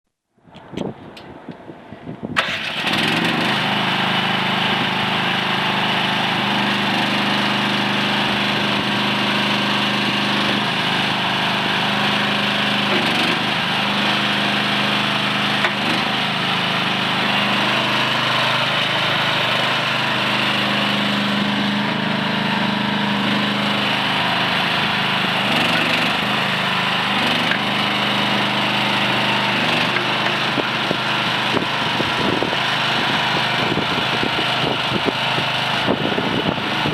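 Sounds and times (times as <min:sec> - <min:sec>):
mini excavator engine running: 0:02.4 - 0:36.9.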